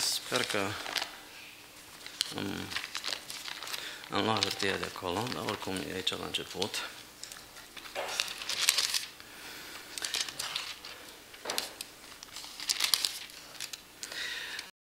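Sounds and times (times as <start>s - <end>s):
paper rustling: 0.0s - 1.1s, 1.8s - 13.8s.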